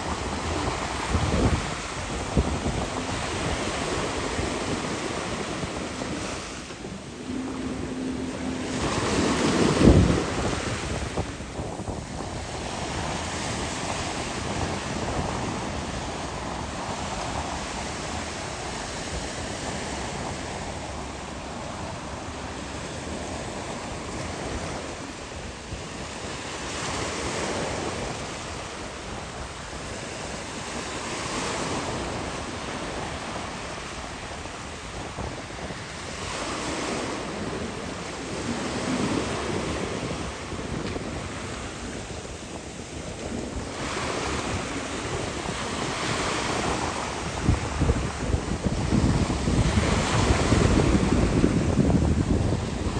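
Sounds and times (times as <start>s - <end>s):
wind rushing over microphone: 0.0s - 52.9s.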